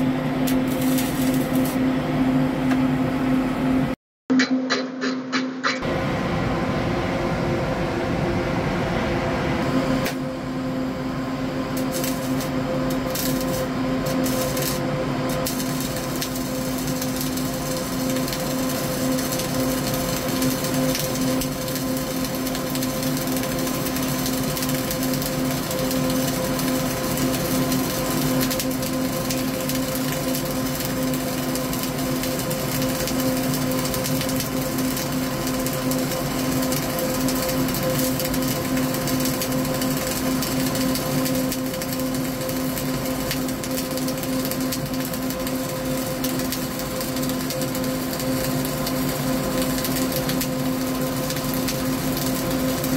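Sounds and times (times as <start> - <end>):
welding arc crackling: 0.0 - 1.9, 11.4 - 52.9
steady hum: 0.0 - 52.9.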